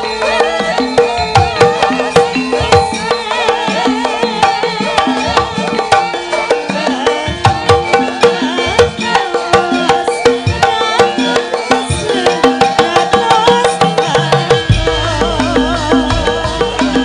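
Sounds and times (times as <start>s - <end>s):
ringing metallophone tones: 0.0s - 17.0s.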